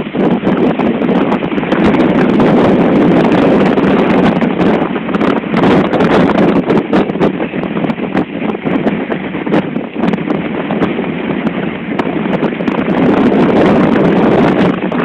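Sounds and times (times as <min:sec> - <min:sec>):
seas breaking along hull: 0:00.0 - 0:15.0
wind buffeting microphone: 0:00.0 - 0:15.0.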